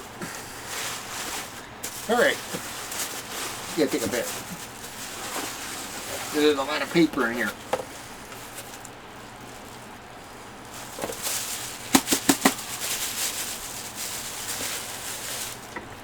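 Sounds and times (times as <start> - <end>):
shredded paper rustling: 0.0 - 16.0.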